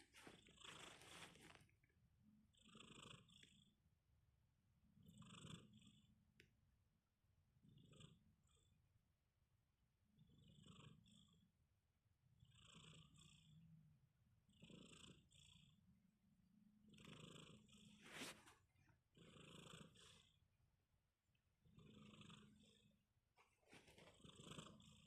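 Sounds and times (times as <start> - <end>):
kitten snoring faintly: 0.0 - 3.9, 4.9 - 6.5, 7.5 - 9.0, 10.0 - 11.7, 12.3 - 20.6, 21.6 - 25.0.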